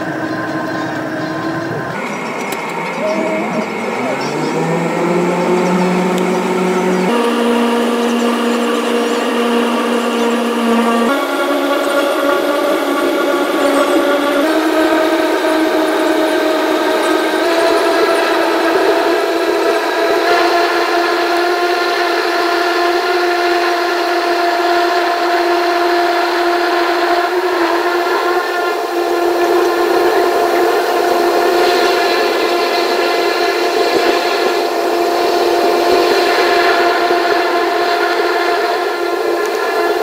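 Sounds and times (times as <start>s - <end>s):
turboprop engine droning: 0.0s - 40.0s.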